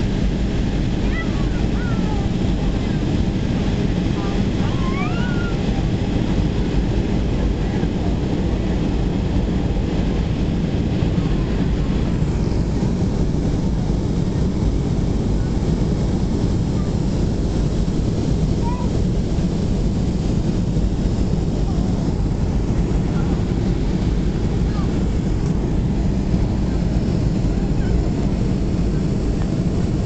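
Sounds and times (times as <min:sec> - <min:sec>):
airplane cabin engine roar: 0:00.0 - 0:30.0.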